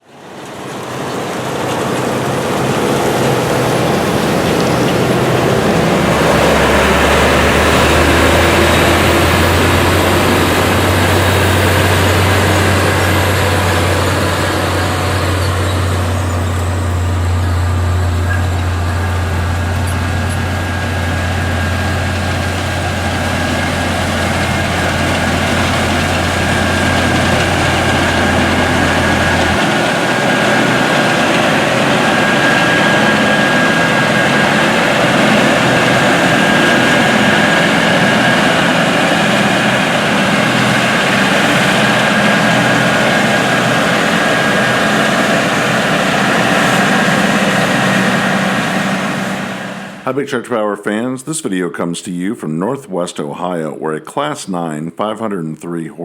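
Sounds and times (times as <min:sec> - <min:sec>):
diesel machinery engine hum: 0:00.0 - 0:50.2.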